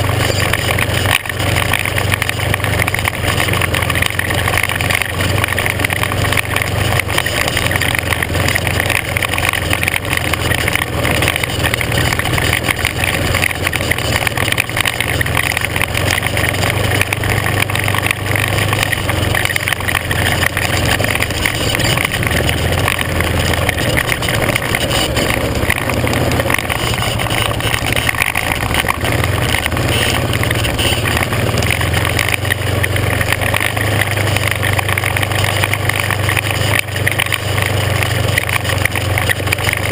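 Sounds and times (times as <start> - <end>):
clatter from rough ground: 0.0 - 39.9
off-road vehicle engine: 0.0 - 39.9.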